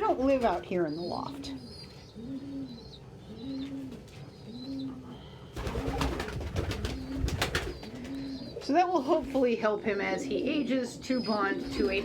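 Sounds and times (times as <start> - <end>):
pigeons cooing: 0.7 - 12.0.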